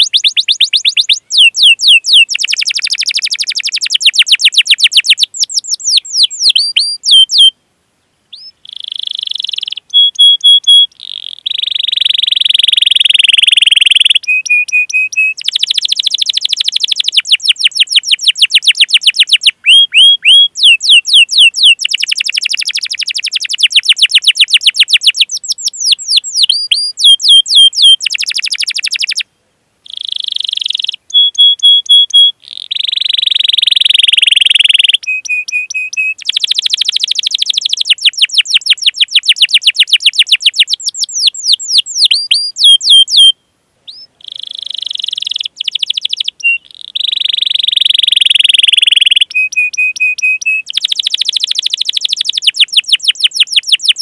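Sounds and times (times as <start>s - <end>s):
canary singing trills: 0.0s - 7.6s, 8.3s - 54.0s.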